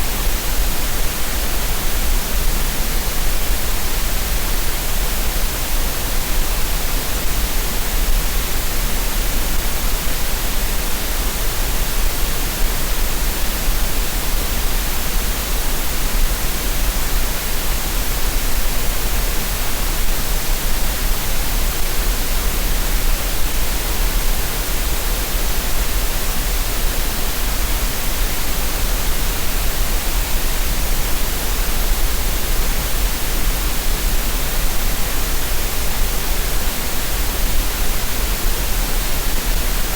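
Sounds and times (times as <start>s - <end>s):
steady green noise hiss: 0.0s - 39.9s.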